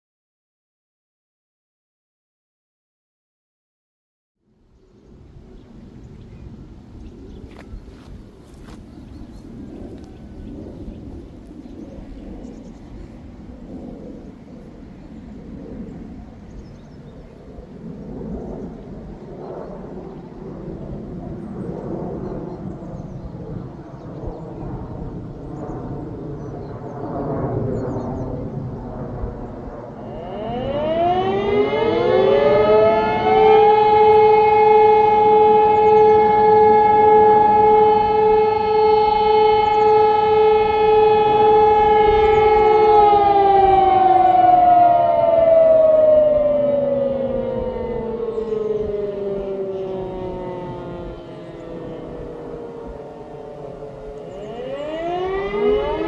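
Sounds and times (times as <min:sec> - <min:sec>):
sirens wailing: 0:07.5 - 0:16.5, 0:17.4 - 0:56.0.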